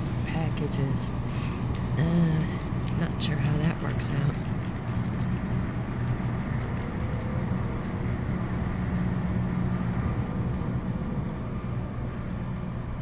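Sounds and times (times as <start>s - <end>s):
ship engine drone: 0.0s - 13.0s.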